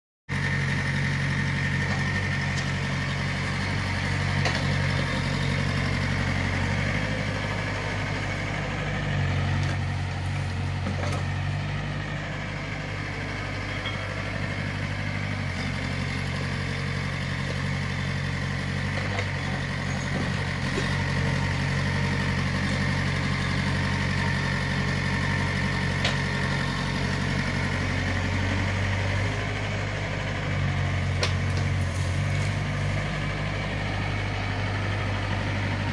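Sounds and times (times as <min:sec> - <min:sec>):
diesel engine running: 0:00.3 - 0:35.9.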